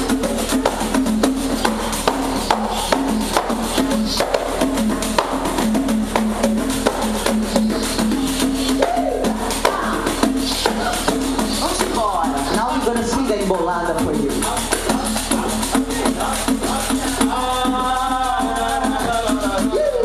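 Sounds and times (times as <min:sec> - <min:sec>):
pandeiros playing fast rhythm: 0:00.0 - 0:20.0.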